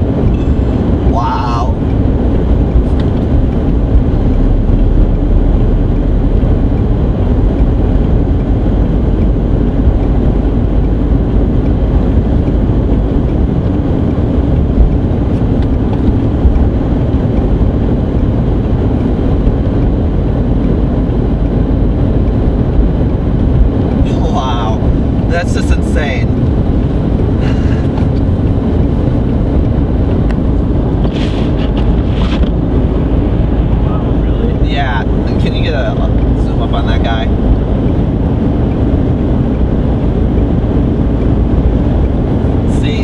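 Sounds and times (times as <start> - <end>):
car engine and tyre rumble: 0.0 - 43.0
wind against car: 0.0 - 43.0.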